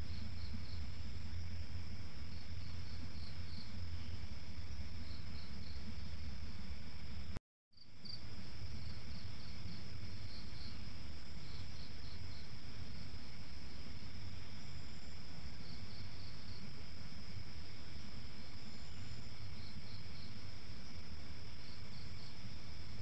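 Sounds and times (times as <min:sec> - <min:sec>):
crickets trilling and chirping: 0:00.0 - 0:23.0.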